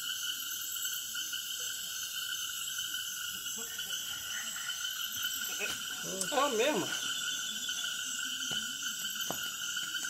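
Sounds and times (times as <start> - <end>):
frogs trilling: 0.0 - 10.0
insects trilling: 0.0 - 10.0.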